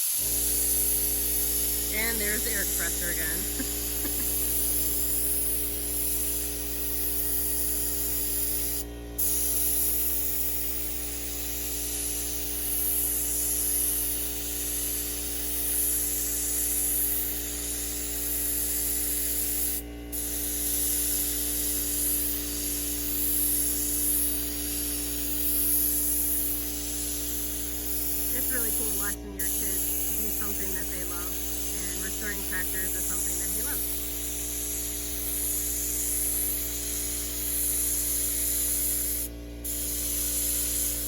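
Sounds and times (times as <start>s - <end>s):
air compressor humming: 0.0s - 41.0s
paint spray gun hissing: 0.0s - 41.0s.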